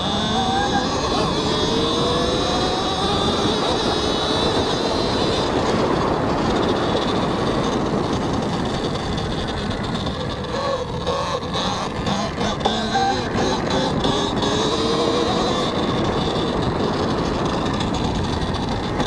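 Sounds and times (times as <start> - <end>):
electric motor whine: 0.0 - 19.0
tyre and drivetrain noise: 0.0 - 19.0.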